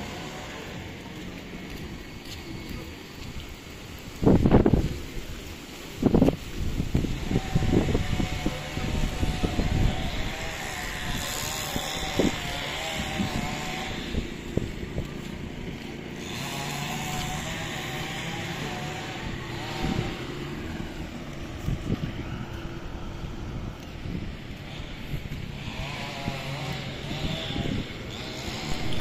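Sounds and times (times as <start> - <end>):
vehicle engine running: 0.0 - 4.8, 8.2 - 29.0
wind buffeting microphone: 0.0 - 29.0.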